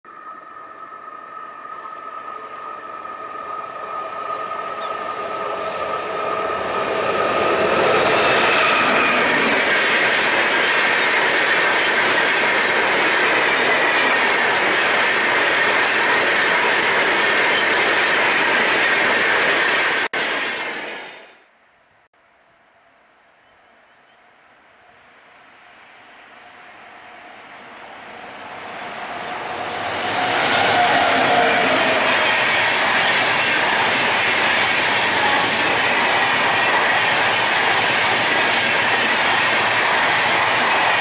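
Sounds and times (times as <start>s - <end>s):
train wheel and rail rushing: 0.1s - 21.5s, 26.5s - 41.0s.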